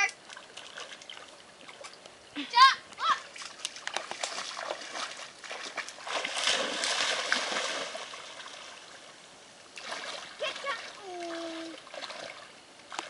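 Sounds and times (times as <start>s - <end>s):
water splashing: 0.0s - 2.0s, 3.0s - 13.0s.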